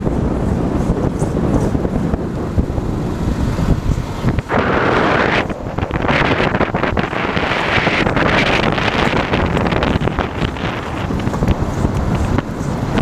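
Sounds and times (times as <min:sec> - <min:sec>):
road and tyre rumble: 0:00.0 - 0:13.0
wind buffeting microphone: 0:00.0 - 0:13.0.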